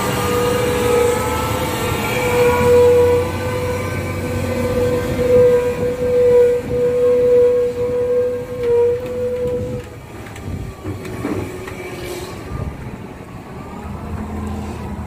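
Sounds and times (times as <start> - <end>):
truck diesel engine passing: 0.0 - 9.0, 9.9 - 15.0.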